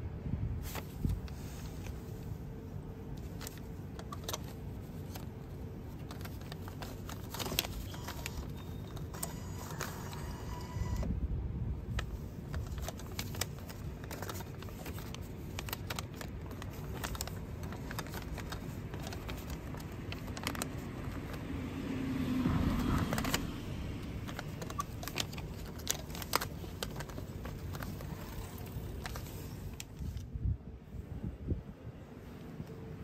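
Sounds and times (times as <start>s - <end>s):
low traffic hum: 0.0s - 33.0s
paper banknote rustling: 0.6s - 11.0s, 11.8s - 21.6s, 22.7s - 30.3s.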